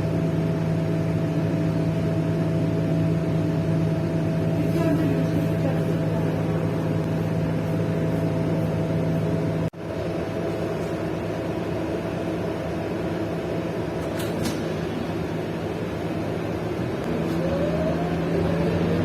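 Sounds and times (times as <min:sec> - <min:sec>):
bus engine hum and road noise: 0:00.0 - 0:19.0.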